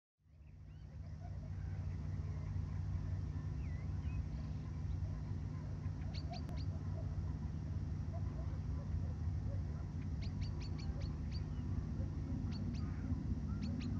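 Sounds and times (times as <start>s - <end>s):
steady low rumble: 0.3s - 13.9s
faint bird calls: 0.4s - 13.9s.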